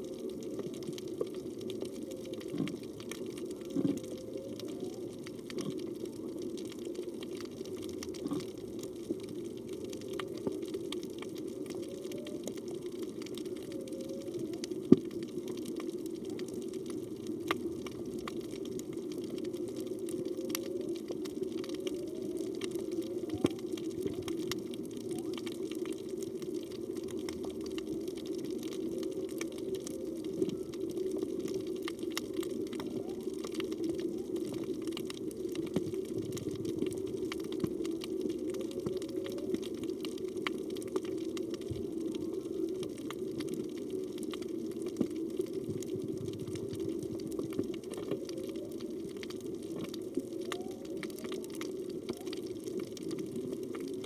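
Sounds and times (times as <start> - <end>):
crackle of small clicks: 0.0 - 54.0
steady underwater hum: 0.0 - 54.0.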